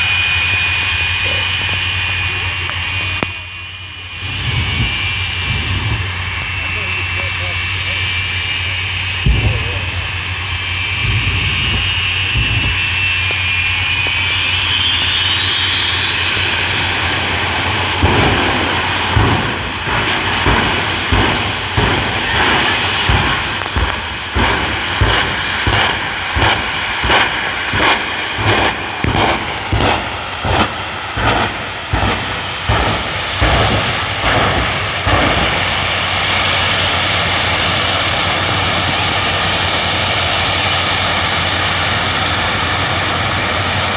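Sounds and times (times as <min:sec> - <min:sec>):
jet engines whining: 0:00.0 - 0:43.9
rhythmic jet engine bursts: 0:00.0 - 0:43.9.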